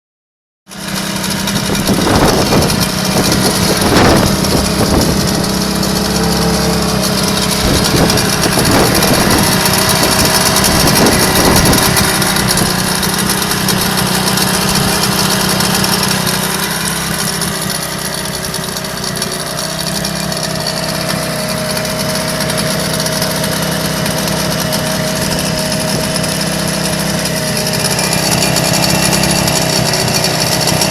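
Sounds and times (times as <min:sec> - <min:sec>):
outboard motor running: 0:00.7 - 0:30.9.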